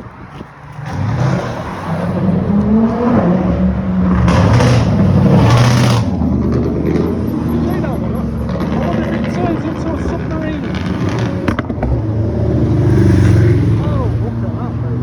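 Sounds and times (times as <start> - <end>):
sports cars revving past: 0.6 - 15.0.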